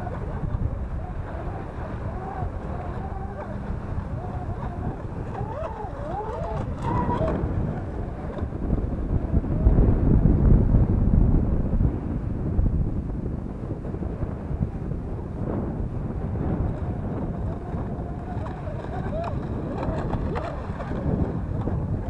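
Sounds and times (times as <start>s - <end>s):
model boat motors whining: 0.0s - 10.8s, 13.8s - 22.0s
wind on microphone: 0.0s - 22.0s.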